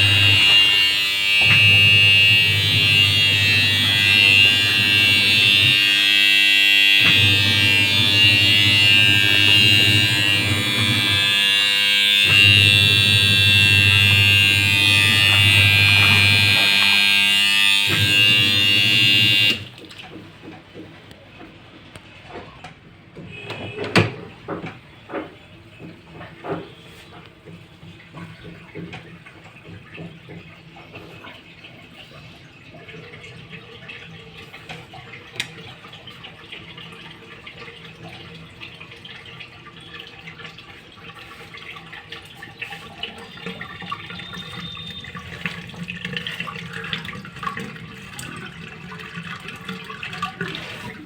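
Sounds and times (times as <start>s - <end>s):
washing machine motor hum: 0.0s - 21.9s, 23.3s - 51.0s.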